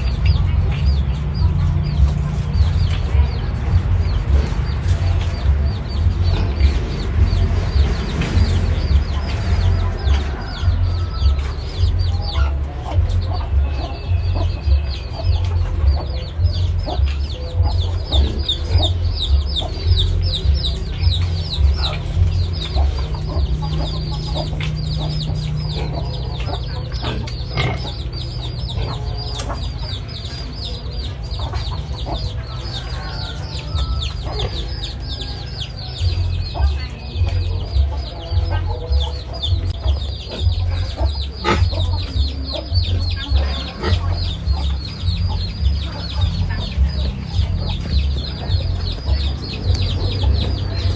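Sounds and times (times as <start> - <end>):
chickens clucking: 0.0 - 50.9
chicks peeping: 0.0 - 50.9
low pulsing rumble: 0.0 - 50.9.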